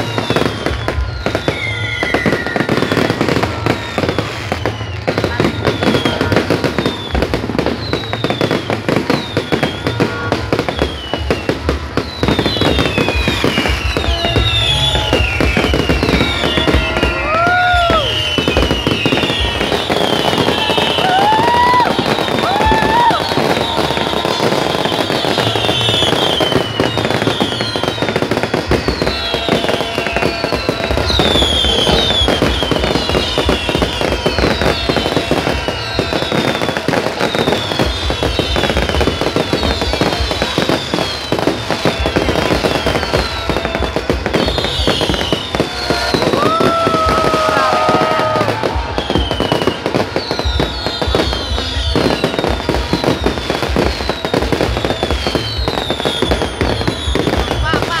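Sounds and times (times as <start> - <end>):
firework whistles falling in pitch: 0.0 - 58.0
fireworks bangs and crackling: 0.0 - 58.0.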